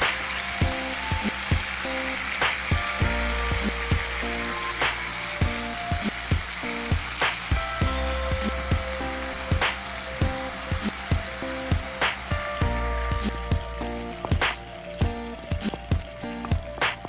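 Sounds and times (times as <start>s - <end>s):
chicken sizzling in skillet: 0.0s - 17.0s.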